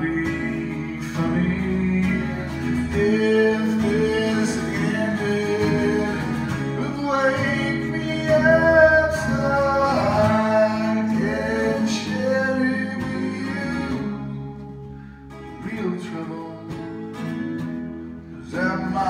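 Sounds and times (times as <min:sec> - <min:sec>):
song with singing: 0:00.0 - 0:17.3, 0:18.5 - 0:19.0.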